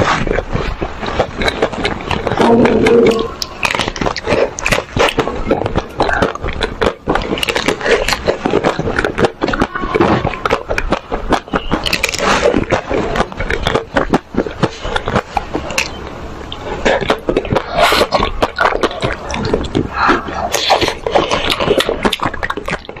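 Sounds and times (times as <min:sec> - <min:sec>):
mouth sounds eating ice cream: 0:00.0 - 0:23.0.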